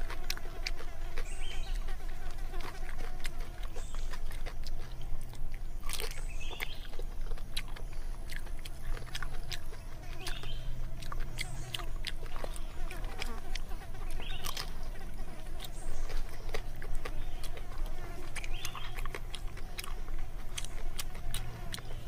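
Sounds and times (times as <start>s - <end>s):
person chewing and lip-smacking: 0.0s - 22.0s.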